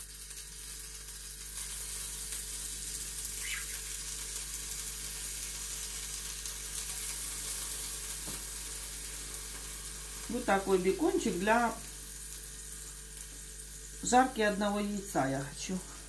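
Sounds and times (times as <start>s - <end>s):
bacon sizzling in oil: 0.0s - 16.0s.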